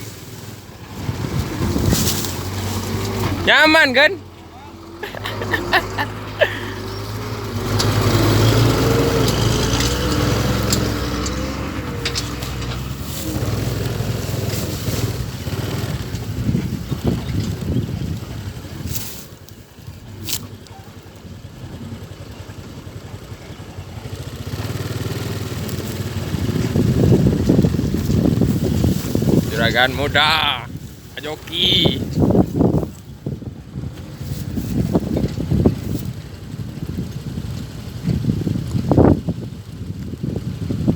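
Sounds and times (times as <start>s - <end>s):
truck diesel engine: 0.0s - 40.9s.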